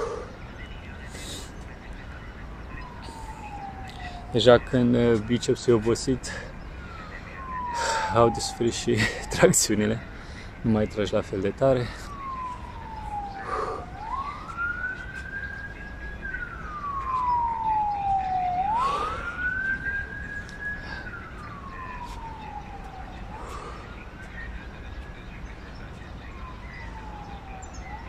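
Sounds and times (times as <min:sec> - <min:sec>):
emergency vehicle siren wailing: 0:00.0 - 0:28.0.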